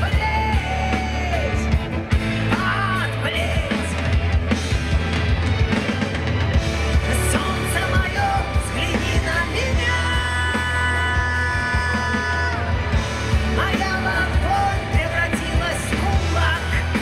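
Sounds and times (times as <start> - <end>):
person singing: 0.0 - 4.6, 6.9 - 17.0
live rock band: 0.0 - 17.0.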